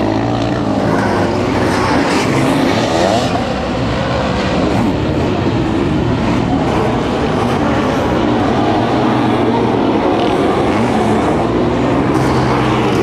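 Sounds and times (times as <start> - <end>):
motocross engines racing: 0.0 - 13.0.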